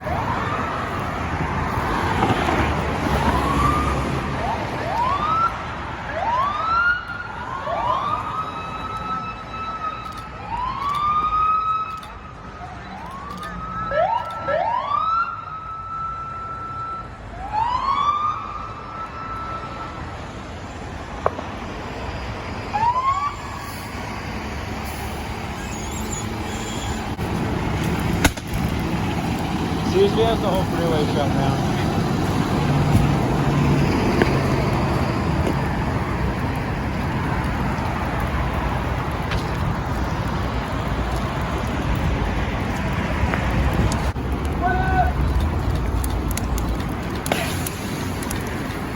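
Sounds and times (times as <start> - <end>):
engine and road noise: 0.0 - 48.9
fire engine siren wails: 0.0 - 48.9.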